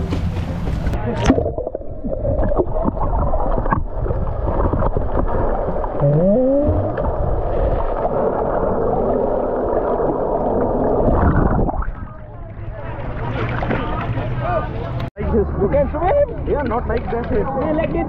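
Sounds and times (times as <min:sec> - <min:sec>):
underwater sloshing and bubbling: 0:00.0 - 0:15.2.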